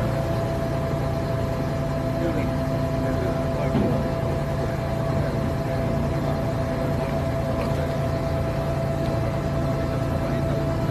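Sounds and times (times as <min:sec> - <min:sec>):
heavy machinery engine running: 0:00.0 - 0:10.9.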